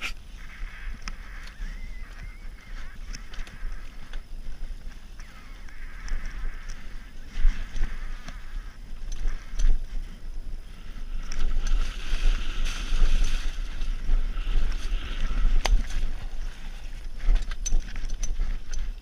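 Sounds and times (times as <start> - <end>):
bike rattling clicks: 0.0 - 19.0
wind buffeting microphone: 0.0 - 19.0.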